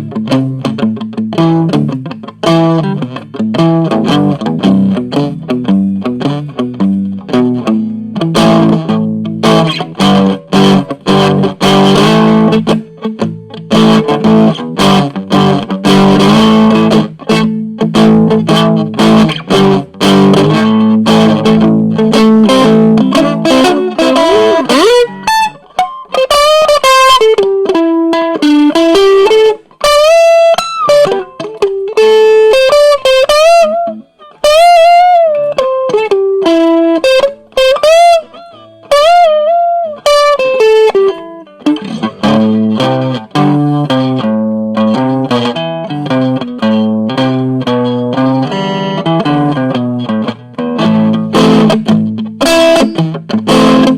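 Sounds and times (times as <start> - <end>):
electric guitar playing: 0.0 - 53.9.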